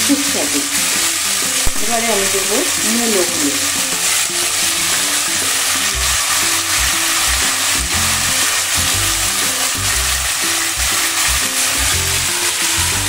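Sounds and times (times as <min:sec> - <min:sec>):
background music: 0:00.0 - 0:13.0
potatoes sizzling in hot oil: 0:00.0 - 0:13.0.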